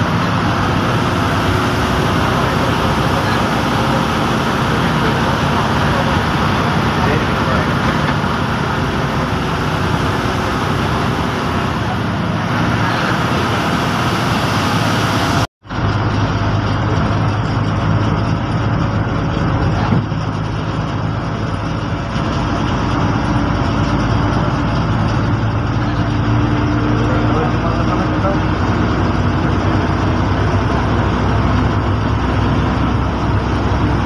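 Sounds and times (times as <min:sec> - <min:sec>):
bus diesel engine hum: 0:00.0 - 0:34.0
road noise: 0:00.0 - 0:34.0.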